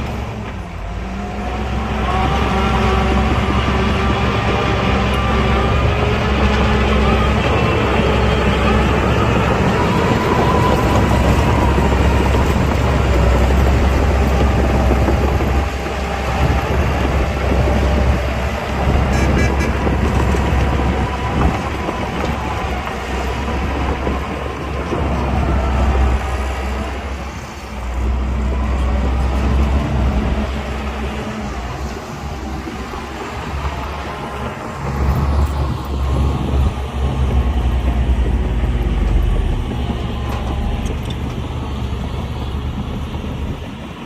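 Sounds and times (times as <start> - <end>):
deep diesel engine rumble: 0.0 - 44.0.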